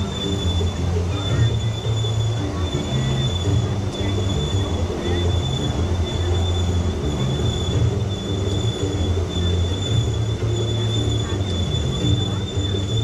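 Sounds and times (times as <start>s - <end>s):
tram whining and rumbling: 0.0s - 13.0s.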